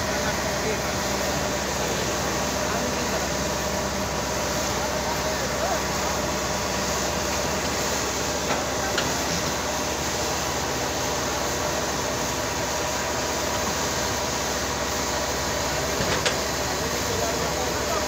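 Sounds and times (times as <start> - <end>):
excavator engines running: 0.0 - 18.0.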